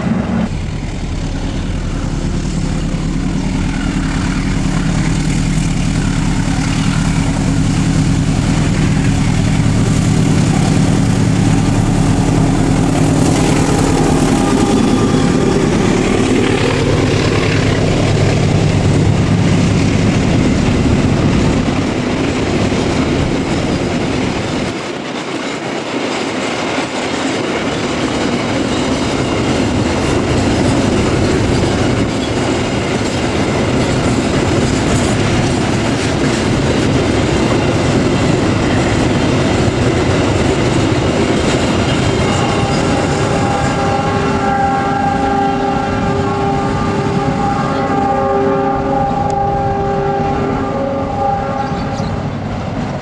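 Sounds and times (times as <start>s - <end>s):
freight wagons rolling rumble: 0.0s - 48.2s
diesel locomotive engine passing: 0.0s - 53.0s.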